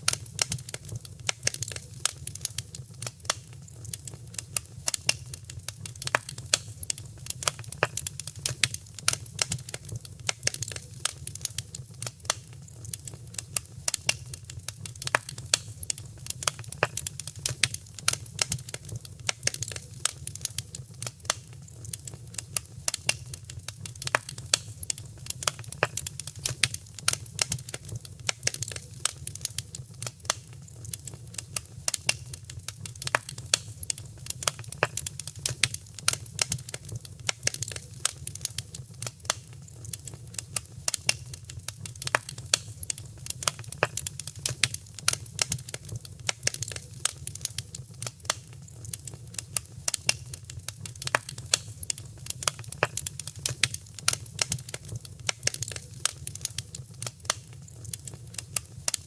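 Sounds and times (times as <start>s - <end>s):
low rumble of burning: 0.0s - 59.0s
wood fire crackling: 0.0s - 59.0s.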